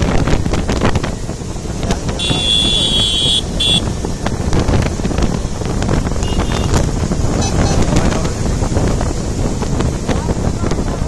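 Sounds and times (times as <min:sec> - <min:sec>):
motorcycles running: 0:00.0 - 0:11.0
wind buffeting microphone: 0:00.0 - 0:11.0.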